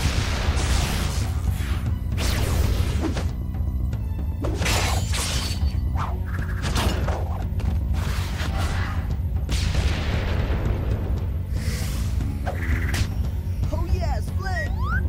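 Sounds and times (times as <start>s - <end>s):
action cartoon music with bass: 0.0s - 15.0s.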